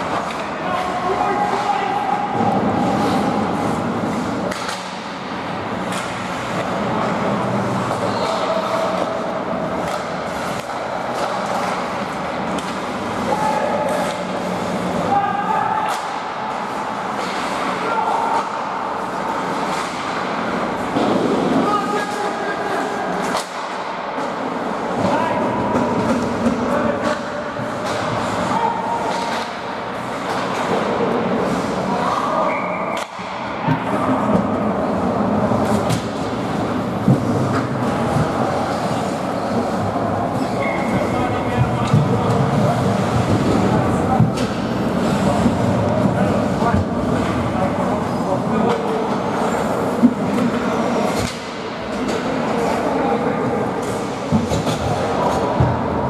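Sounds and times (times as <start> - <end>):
stick and puck clacks: 0.0 - 1.7, 2.3 - 15.1, 15.8 - 31.9, 32.8 - 56.0
skates scraping ice: 0.0 - 32.7, 33.4 - 56.0.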